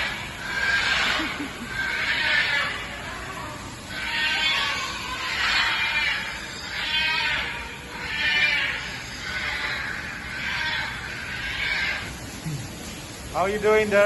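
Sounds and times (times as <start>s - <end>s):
parrot squawking: 0.0s - 3.1s, 3.7s - 12.2s.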